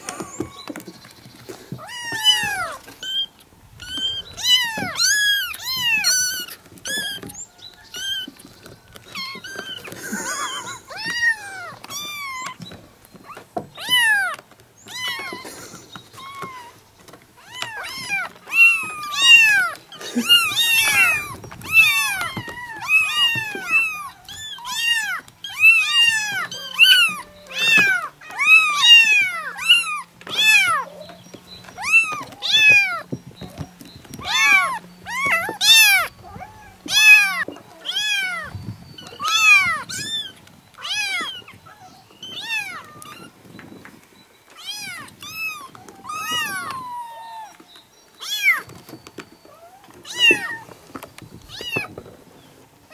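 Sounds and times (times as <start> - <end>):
kittens meowing: 0.0 - 0.8, 1.7 - 16.8, 17.4 - 43.4, 44.5 - 48.8, 49.4 - 52.0.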